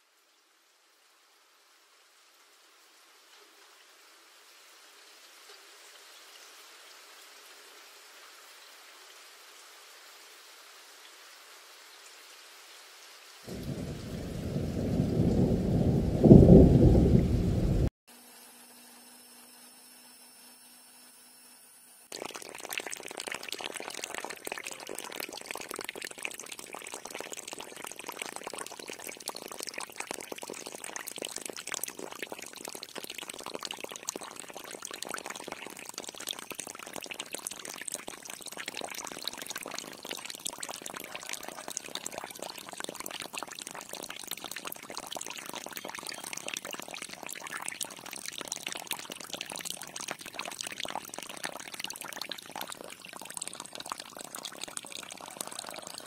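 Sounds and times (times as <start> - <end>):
water pouring and splashing: 2.1 - 17.9, 22.1 - 56.0.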